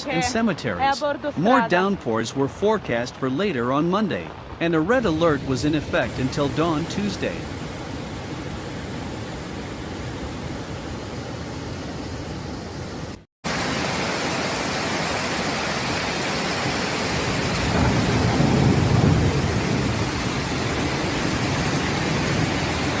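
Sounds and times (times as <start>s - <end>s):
heavy water rushing: 0.0s - 23.0s.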